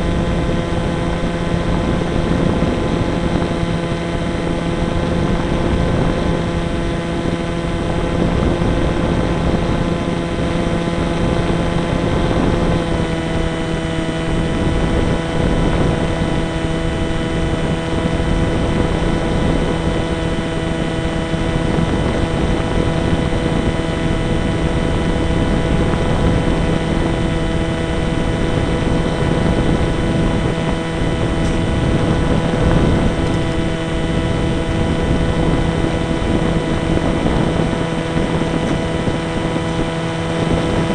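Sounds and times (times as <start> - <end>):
model airplane motor running: 0.0 - 40.9
wind rushing over microphone: 0.0 - 40.9.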